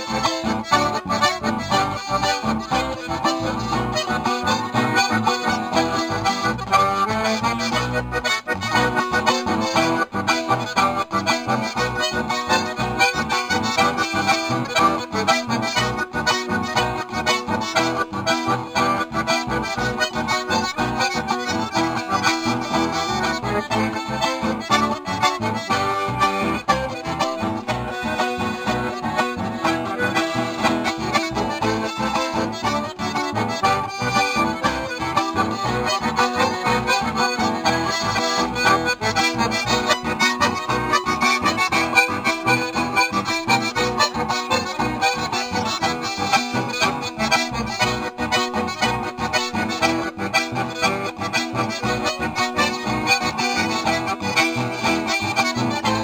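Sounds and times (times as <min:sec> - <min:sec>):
accordions playing melody: 0:00.0 - 0:56.0
strummed acoustic guitars: 0:00.0 - 0:56.0.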